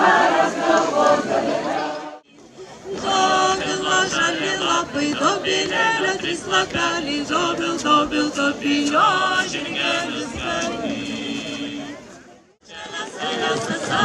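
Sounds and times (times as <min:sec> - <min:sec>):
group singing unaccompanied: 0:00.0 - 0:02.3, 0:02.9 - 0:14.0.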